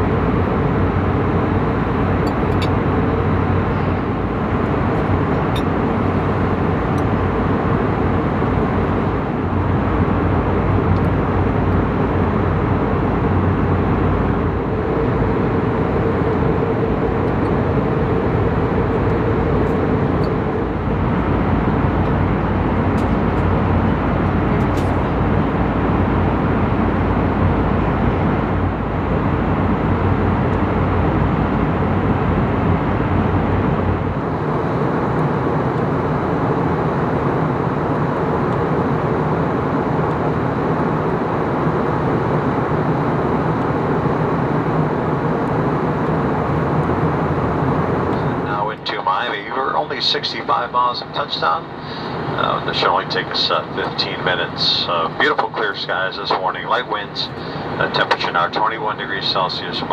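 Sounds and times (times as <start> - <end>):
low hum: 0.0 - 48.9
airplane cabin noise rushing: 0.0 - 59.9.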